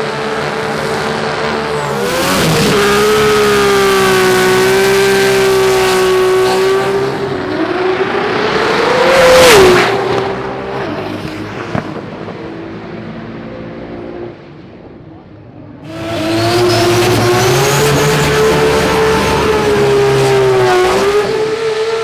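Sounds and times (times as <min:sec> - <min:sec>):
drag racing car engine passing: 0:00.0 - 0:12.4, 0:15.8 - 0:22.0.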